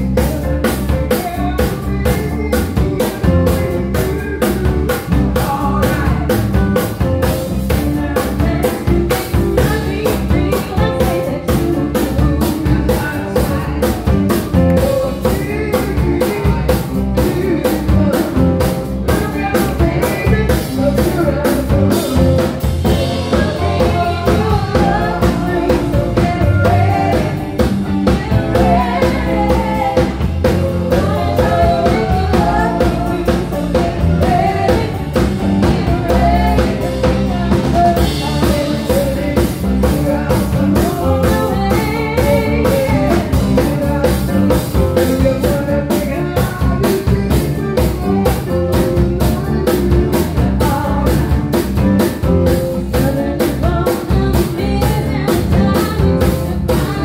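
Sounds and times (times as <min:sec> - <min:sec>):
live band playing: 0:00.0 - 0:57.0
woman singing: 0:00.0 - 0:57.0.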